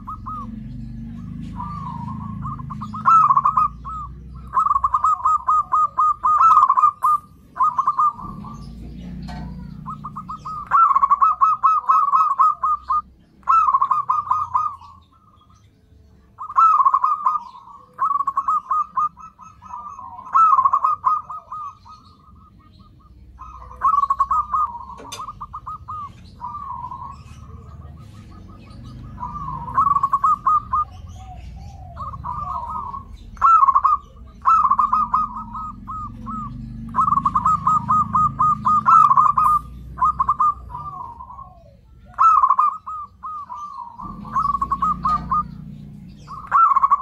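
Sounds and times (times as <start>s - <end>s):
dove cooing: 0.0s - 47.0s.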